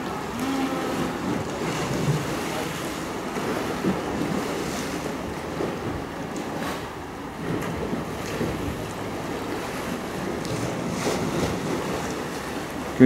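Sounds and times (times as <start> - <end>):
sea waves washing on shore: 0.0 - 13.0
wind buffeting microphone: 0.0 - 13.0.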